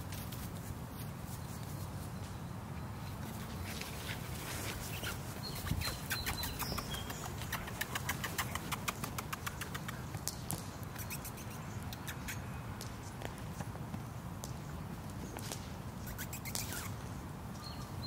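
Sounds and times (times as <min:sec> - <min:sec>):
puppy paws pattering on grass: 0:00.0 - 0:17.8.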